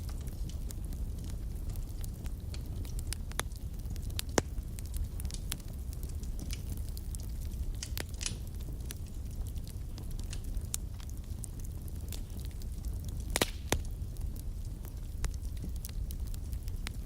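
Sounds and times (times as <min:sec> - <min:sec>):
fire crackling and popping: 0:00.0 - 0:17.0
fire flames rumbling: 0:00.0 - 0:17.0
fire hissing: 0:00.0 - 0:17.0.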